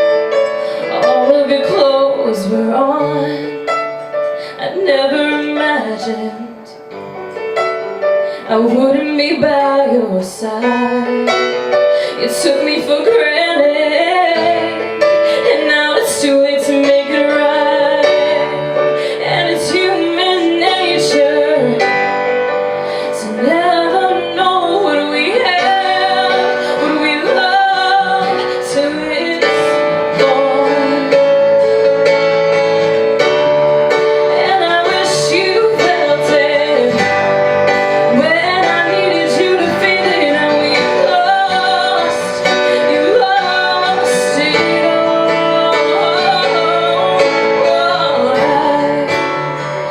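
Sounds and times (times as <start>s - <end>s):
instrumental accompaniment: 0.0s - 49.9s
woman singing: 0.8s - 3.8s, 4.4s - 6.9s, 8.3s - 22.2s, 22.9s - 31.8s, 34.0s - 49.9s.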